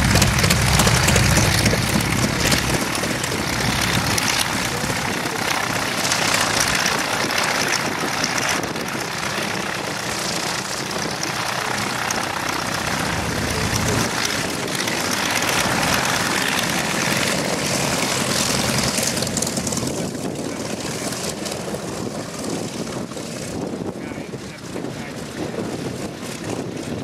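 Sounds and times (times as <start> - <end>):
radial aircraft engine running: 0.0 - 27.0.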